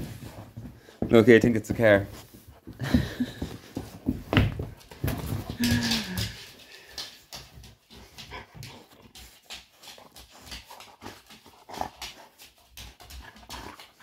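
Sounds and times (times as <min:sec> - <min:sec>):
dog claws clicking on hardwood floor: 0:00.6 - 0:14.0.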